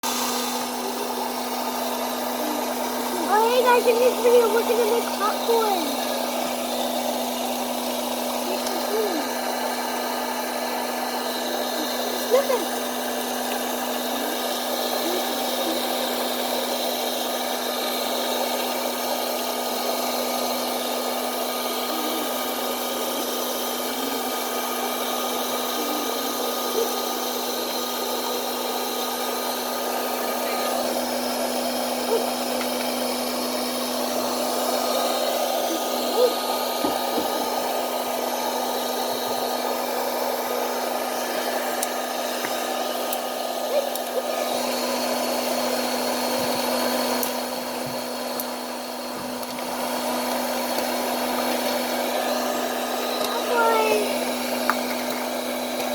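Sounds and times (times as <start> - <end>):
popcorn popper fan hum: 0.0 - 55.9.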